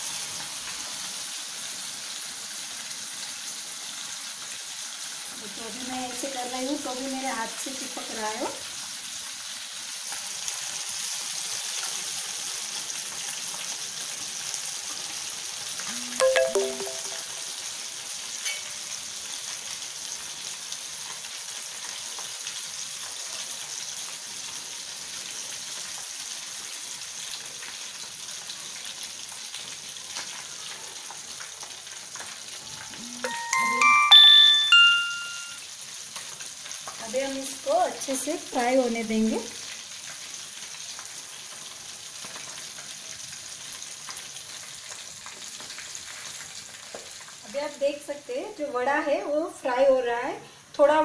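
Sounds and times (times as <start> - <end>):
food deep-frying in hot oil: 0.0 - 51.0.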